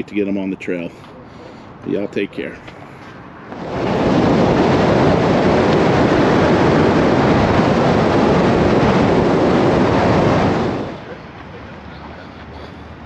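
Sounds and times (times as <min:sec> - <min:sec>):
wind rushing on microphone: 0:01.7 - 0:12.2.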